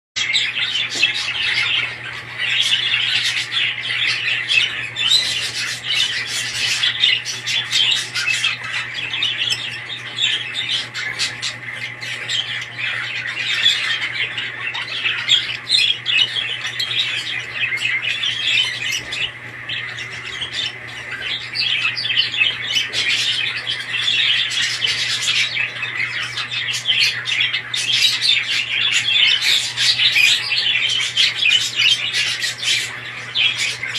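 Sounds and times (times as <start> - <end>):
parrots chattering and squawking: 0.2 - 33.9
steady low hum: 0.2 - 33.9.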